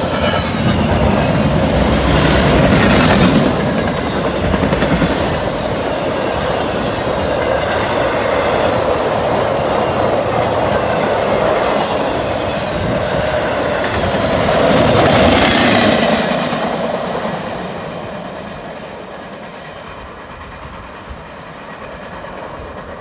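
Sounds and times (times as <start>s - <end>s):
freight train wheels clattering: 0.0s - 23.0s.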